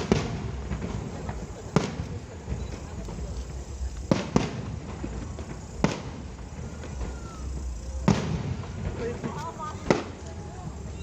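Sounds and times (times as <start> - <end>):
steady low rumble: 0.0 - 10.9
fireworks bangs: 0.0 - 11.0.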